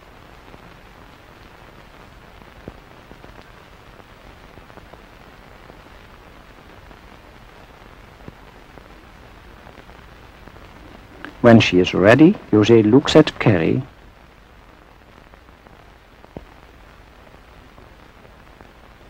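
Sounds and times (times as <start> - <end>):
film soundtrack hiss and crackle: 0.0 - 19.0.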